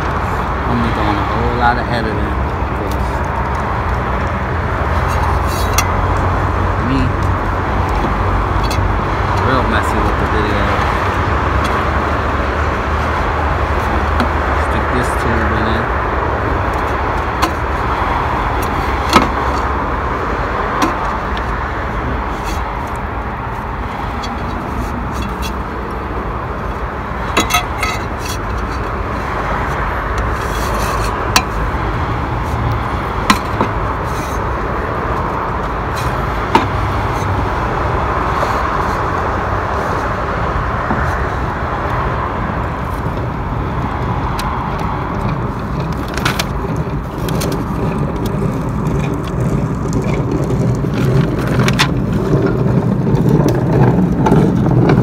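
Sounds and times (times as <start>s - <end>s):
street and traffic noise: 0.0s - 55.0s.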